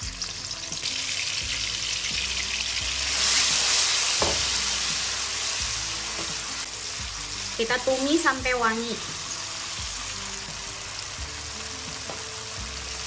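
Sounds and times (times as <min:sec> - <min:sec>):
chili paste sizzling in oil: 0:00.0 - 0:13.0.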